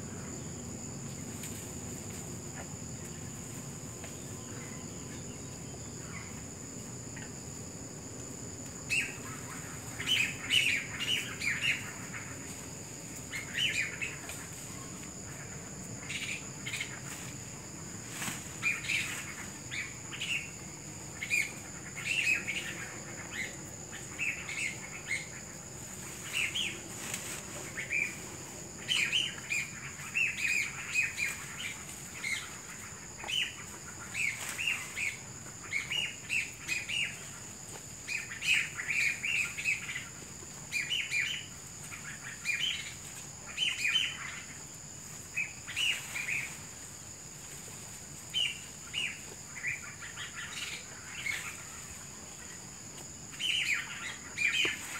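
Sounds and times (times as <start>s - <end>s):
small birds chirping: 8.8s - 46.7s, 48.3s - 54.9s.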